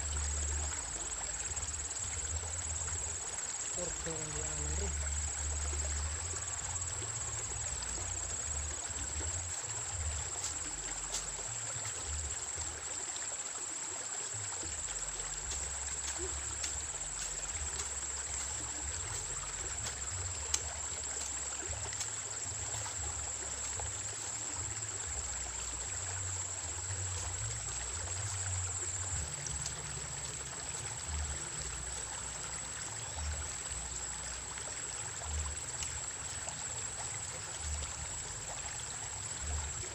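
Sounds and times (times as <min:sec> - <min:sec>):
small river flowing: 0:00.0 - 0:39.9.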